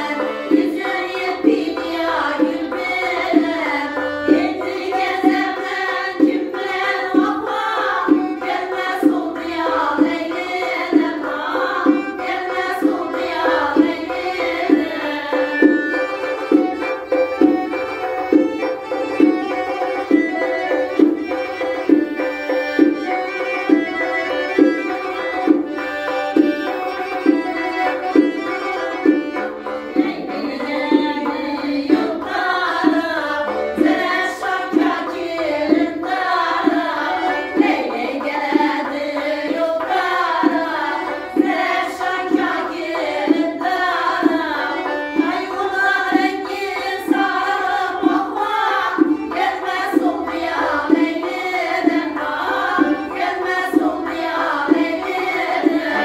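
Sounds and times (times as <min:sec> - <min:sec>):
accordion folk music: 0:00.0 - 0:56.0
voices singing: 0:00.0 - 0:56.0.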